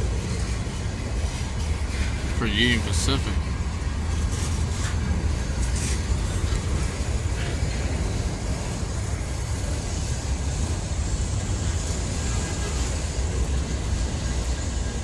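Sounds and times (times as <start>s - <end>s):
steel train wheels on rail: 0.0s - 15.0s.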